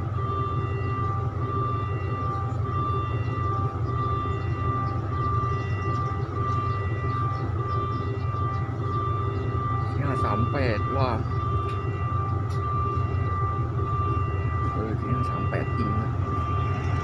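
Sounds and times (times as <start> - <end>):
diesel train engine drone: 0.0 - 17.0
high whine: 0.0 - 17.0.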